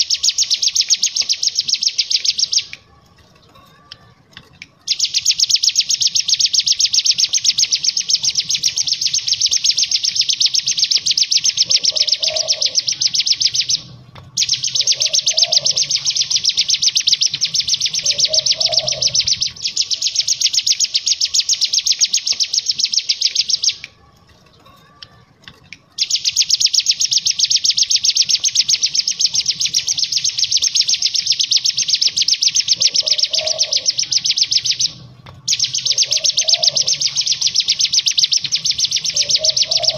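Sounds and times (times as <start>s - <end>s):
bird singing fast trill: 0.0s - 2.8s, 4.8s - 23.9s, 25.9s - 39.9s.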